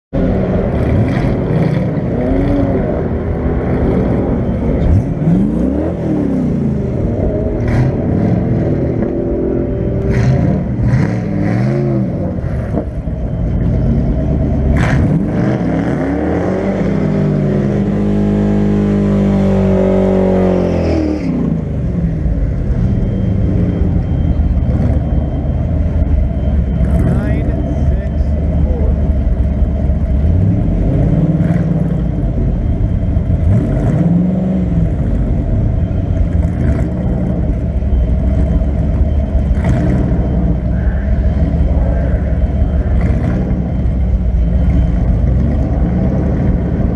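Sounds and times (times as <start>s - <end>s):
car engine idling and revving: 0.1s - 46.9s.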